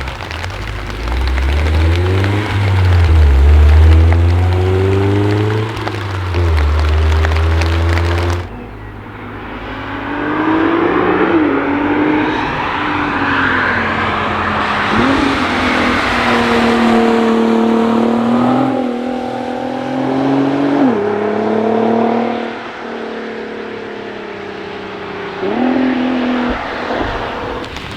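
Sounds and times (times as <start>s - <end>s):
car engines passing: 0.0s - 27.9s
tyres hissing on wet road: 0.0s - 27.9s.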